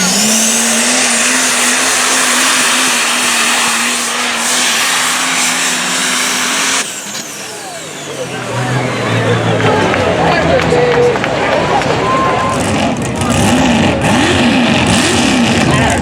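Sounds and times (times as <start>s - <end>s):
truck engine at full throttle: 0.0s - 16.0s.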